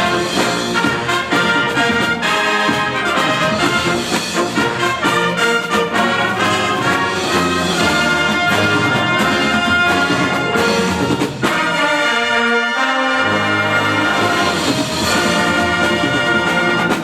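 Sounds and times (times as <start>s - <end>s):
drums: 0.0s - 17.0s
marching band playing: 0.0s - 17.0s.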